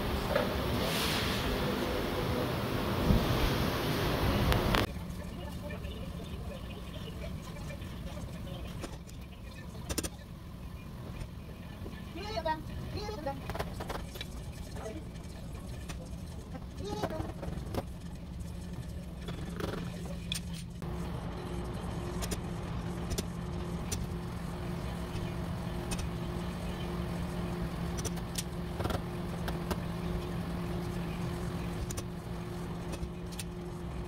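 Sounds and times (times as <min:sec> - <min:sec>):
low electrical hum: 0:01.5 - 0:34.0.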